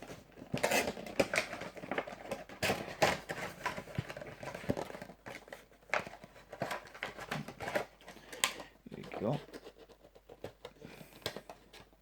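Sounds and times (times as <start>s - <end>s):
plastic packaging taps and clicks: 0.4s - 9.6s, 10.2s - 12.0s.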